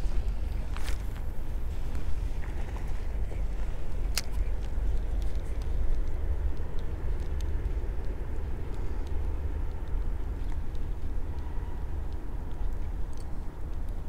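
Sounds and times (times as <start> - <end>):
wind buffeting microphone: 0.0 - 14.0
faint clicks: 1.9 - 14.0.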